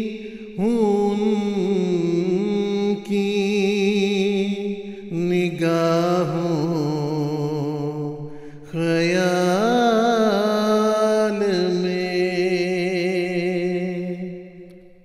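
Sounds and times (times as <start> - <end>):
man reciting a poem melodiously: 0.0 - 14.8.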